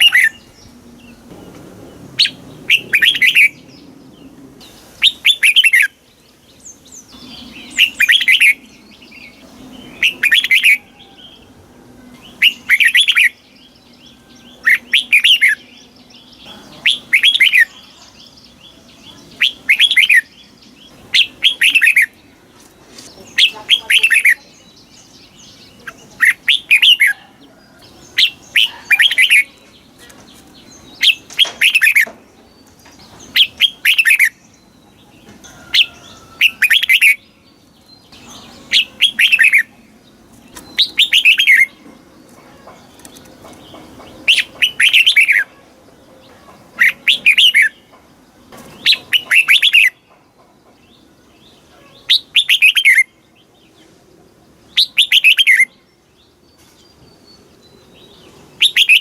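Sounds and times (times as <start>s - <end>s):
bulbul singing: 0.0s - 59.0s.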